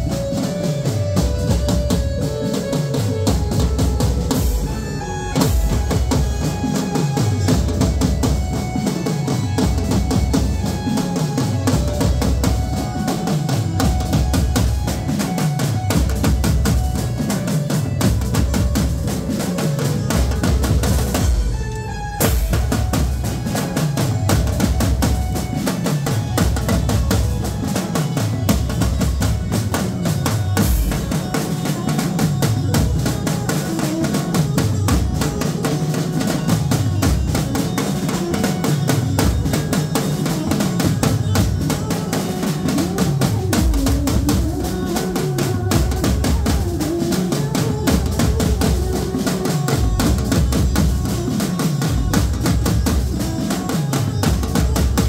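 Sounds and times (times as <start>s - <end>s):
cymbals: 0.0s - 55.0s
drum band playing fast rhythm: 0.0s - 55.0s.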